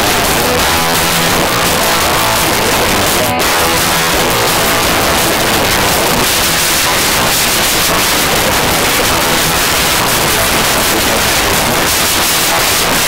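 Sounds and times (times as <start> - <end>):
steady static hiss: 0.0 - 13.0.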